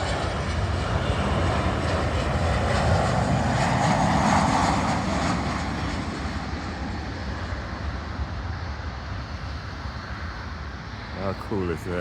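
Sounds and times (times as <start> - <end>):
jet engines roaring at takeoff: 0.0 - 12.0.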